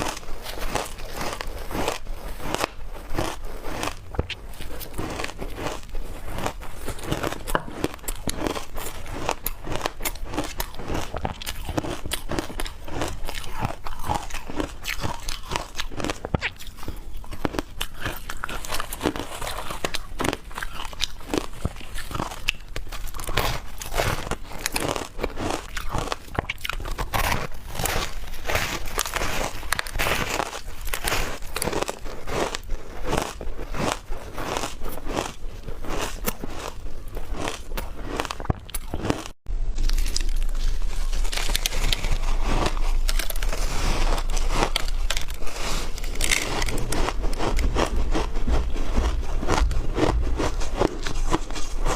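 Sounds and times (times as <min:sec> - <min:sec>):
chewing shaved ice: 0:00.0 - 0:51.9.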